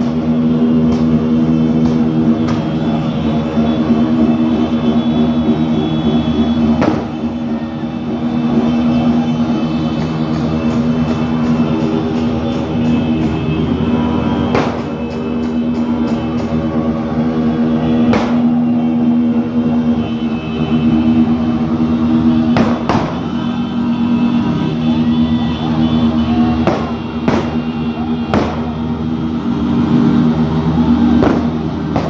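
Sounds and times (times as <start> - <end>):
motorcycle engines running: 0.0 - 32.0
motorcycle horns blaring: 0.1 - 29.0.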